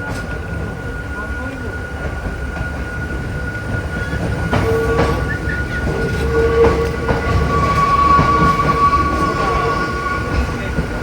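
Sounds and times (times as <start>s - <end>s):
rail clacks: 0.0s - 11.0s
railcar running gear rumble: 0.0s - 11.0s
steady high-pitched tones: 0.6s - 11.0s.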